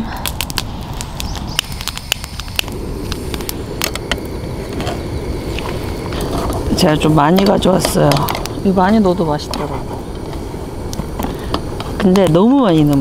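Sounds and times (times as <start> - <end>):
campfire crackling and popping: 0.0 - 13.0
onions sizzling in frying pan: 0.0 - 13.0.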